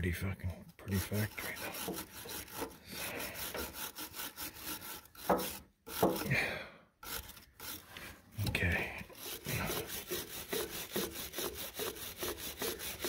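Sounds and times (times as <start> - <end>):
wire brush scrubbing metal: 0.8 - 13.0.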